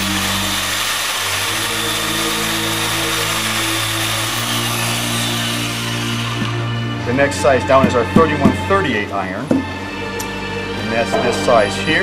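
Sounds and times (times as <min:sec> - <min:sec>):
electric drill whining: 0:00.0 - 0:11.0.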